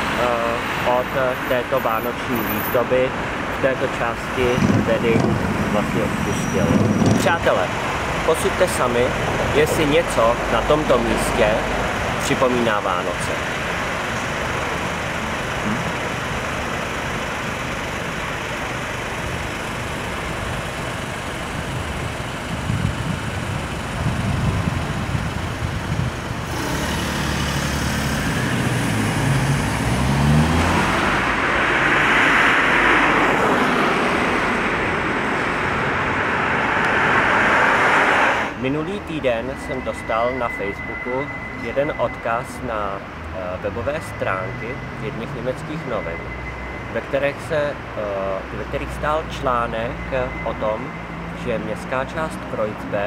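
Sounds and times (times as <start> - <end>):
cars passing on road: 0.0 - 53.0.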